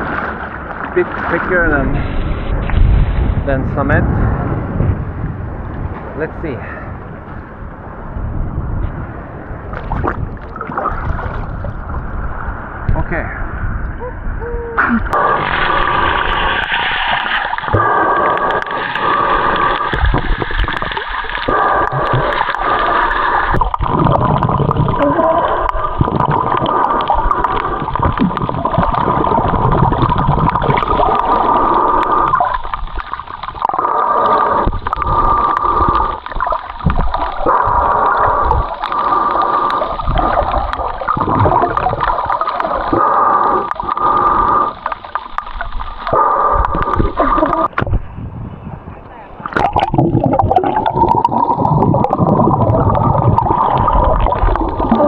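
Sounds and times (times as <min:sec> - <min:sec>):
muffled water sloshing and gurgling: 0:00.0 - 0:55.0.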